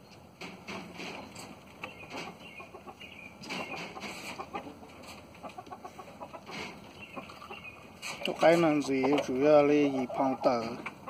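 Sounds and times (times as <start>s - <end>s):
pecking and scratching at dirt: 0.1s - 11.0s
rooster clucking quietly: 1.8s - 11.0s.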